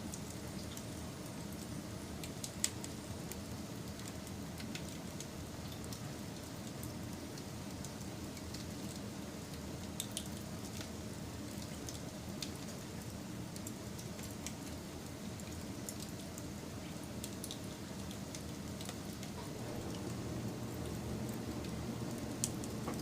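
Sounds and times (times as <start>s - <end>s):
wood fire crackling and popping: 0.2s - 11.0s, 11.6s - 23.0s.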